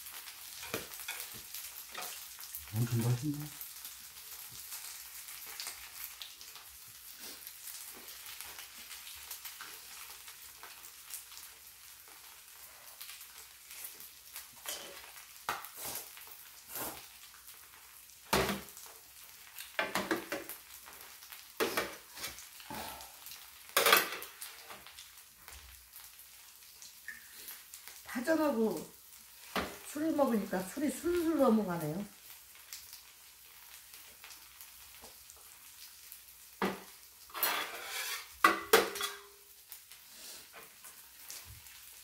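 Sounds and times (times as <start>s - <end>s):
pancake sizzling on a griddle: 0.0s - 42.0s.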